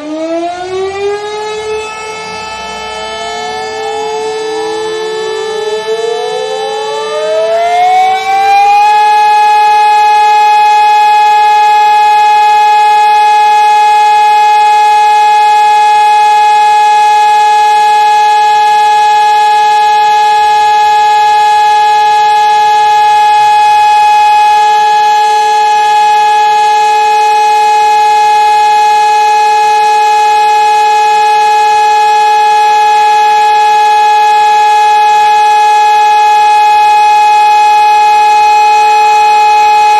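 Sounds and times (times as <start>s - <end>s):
alarm siren wailing: 0.0s - 39.9s.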